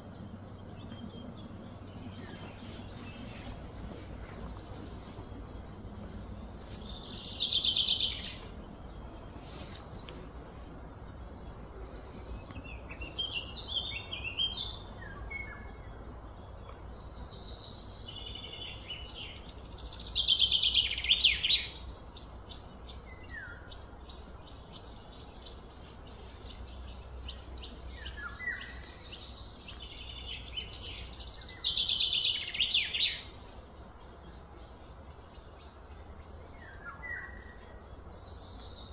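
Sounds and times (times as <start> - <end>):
songbird trilling: 0.0 - 35.6
birds chirping: 0.0 - 38.9
low background hum: 0.0 - 38.9.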